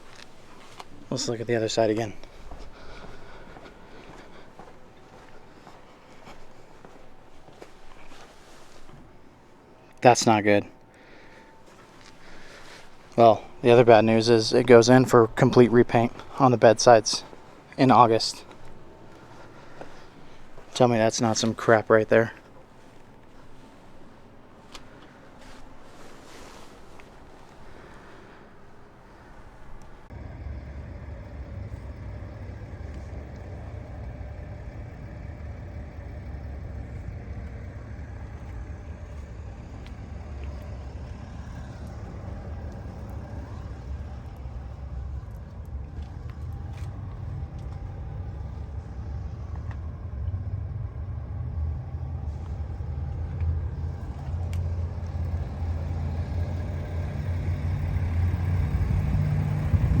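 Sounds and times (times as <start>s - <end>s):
vehicle engine rumbling: 0.0s - 60.0s.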